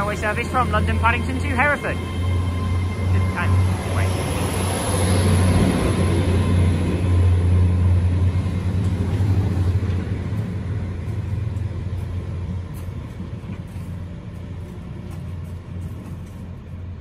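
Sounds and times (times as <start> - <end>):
train diesel engine drone: 0.0 - 17.0.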